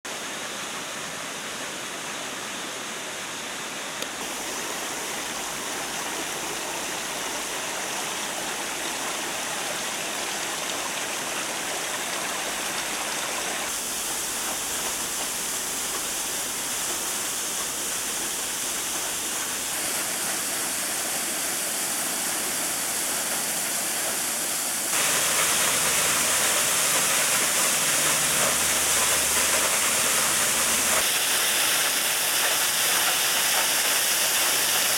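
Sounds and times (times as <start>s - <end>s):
waterfall splashing onto rocks: 4.1s - 34.9s.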